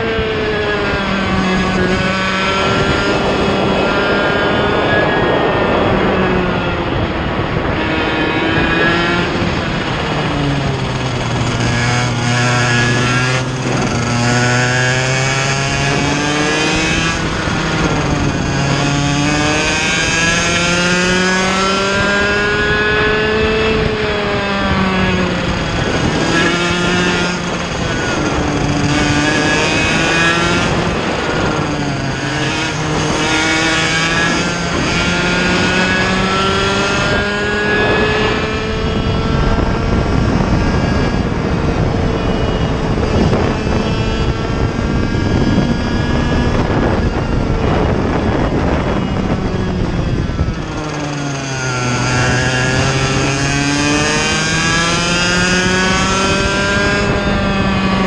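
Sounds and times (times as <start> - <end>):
kart two-stroke engine racing: 0.0 - 58.0.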